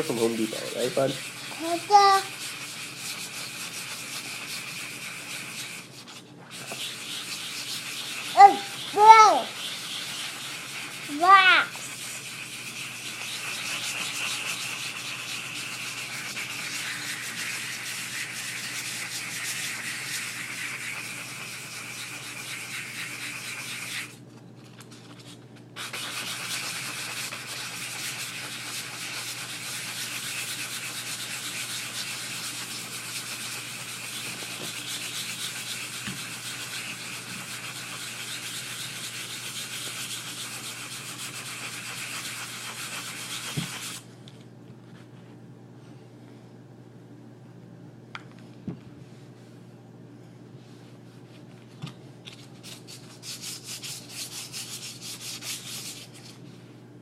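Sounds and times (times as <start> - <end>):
sandpaper rasping on steel: 0.0 - 24.2, 25.8 - 44.0, 52.7 - 56.2.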